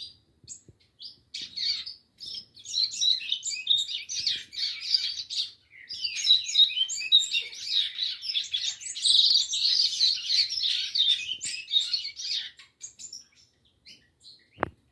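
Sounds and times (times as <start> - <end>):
caged birds chirping and warbling: 0.0 - 14.9.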